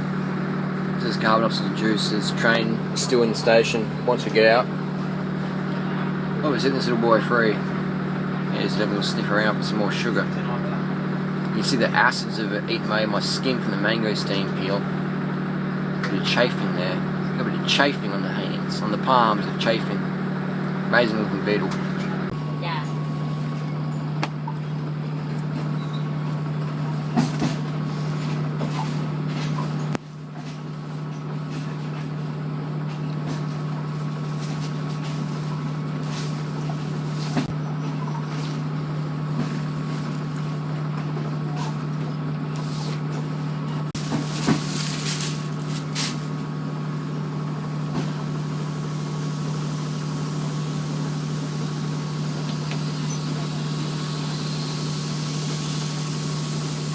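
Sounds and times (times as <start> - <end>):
train engine idling hum: 0.0 - 56.9.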